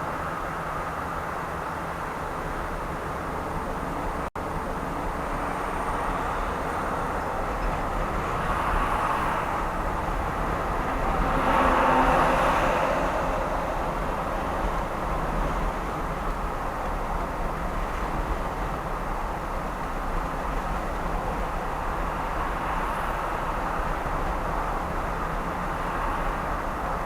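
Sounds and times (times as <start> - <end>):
car road and engine noise: 0.0 - 27.0
passing vehicle: 0.0 - 27.0.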